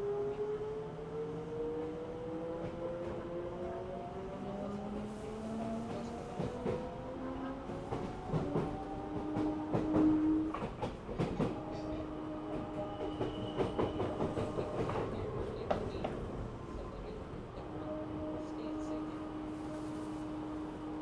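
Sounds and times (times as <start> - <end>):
train electric hum: 0.0 - 21.0.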